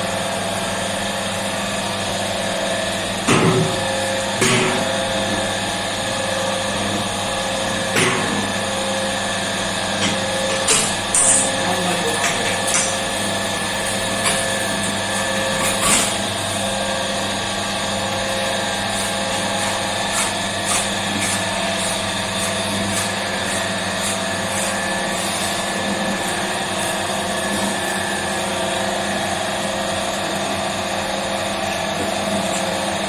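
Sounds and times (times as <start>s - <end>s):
motor hum with fixed tones: 0.0s - 33.0s.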